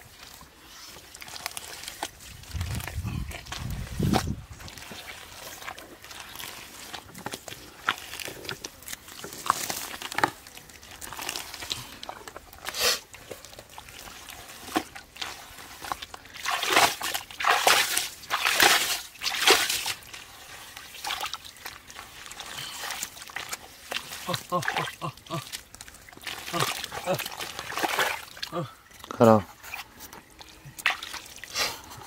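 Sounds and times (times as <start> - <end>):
hands squelching through wet mud: 0.0 - 32.0.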